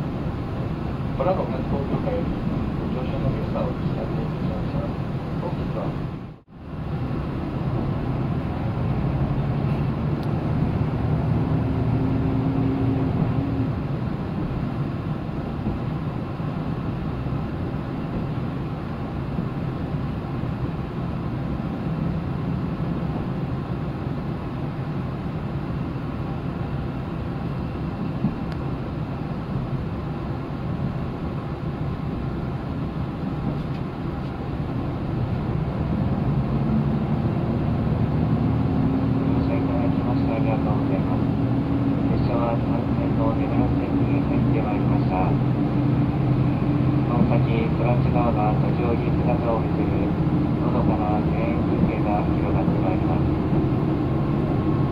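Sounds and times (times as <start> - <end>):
railcar engine drone: 0.0 - 54.9
wheels rumbling on rails: 0.0 - 54.9.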